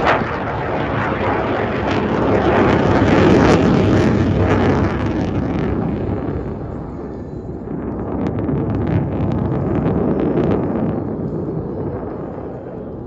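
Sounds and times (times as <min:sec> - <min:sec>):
jet passing with crackle: 0:00.0 - 0:13.0.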